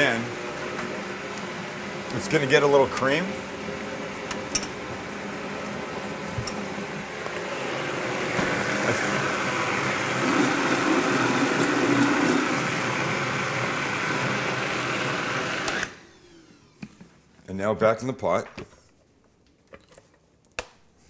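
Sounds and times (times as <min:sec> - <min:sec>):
blender running: 0:00.0 - 0:16.9.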